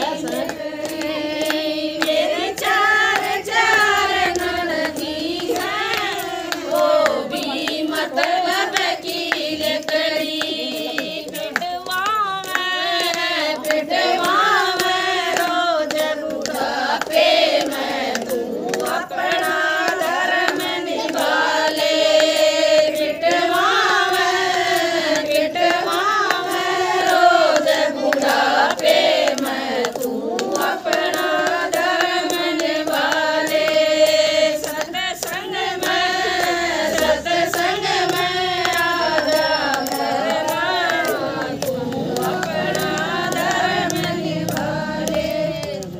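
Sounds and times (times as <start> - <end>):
hand claps: 0.0 - 45.9
women singing together: 0.0 - 45.9.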